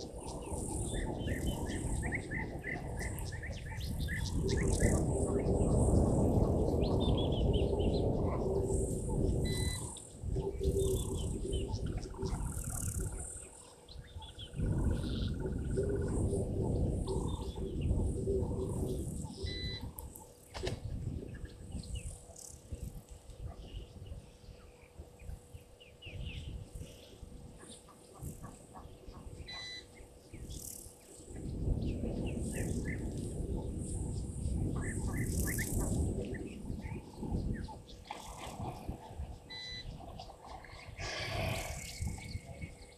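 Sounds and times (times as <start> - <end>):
insects calling: 0.0 - 20.6, 21.8 - 42.9
small birds chirping: 0.0 - 42.9.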